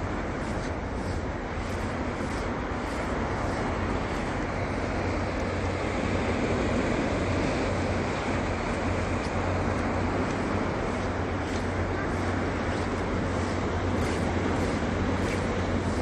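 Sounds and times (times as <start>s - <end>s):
surf washing over rocks: 0.0s - 16.0s
wind: 0.0s - 16.0s.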